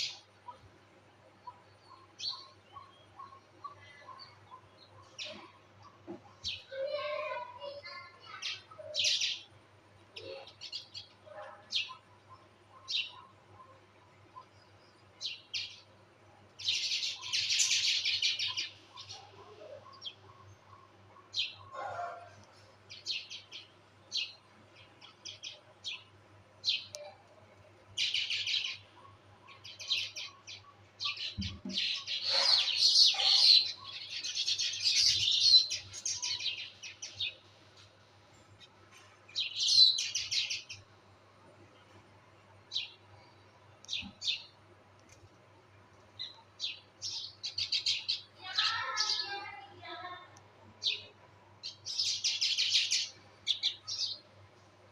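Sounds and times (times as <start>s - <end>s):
small birds chirping: 0.0s - 54.5s.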